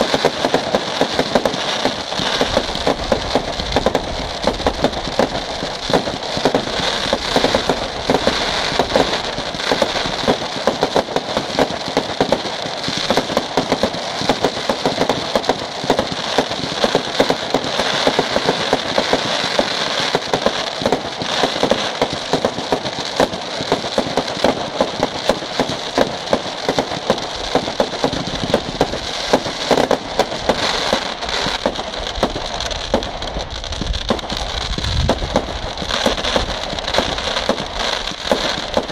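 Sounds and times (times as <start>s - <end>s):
fireworks crackling: 0.0s - 38.9s
sharp firework bangs: 0.0s - 38.9s.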